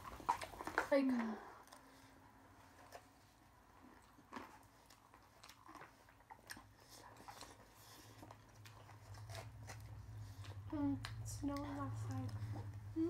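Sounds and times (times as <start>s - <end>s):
chewing and crunching: 0.0s - 13.0s.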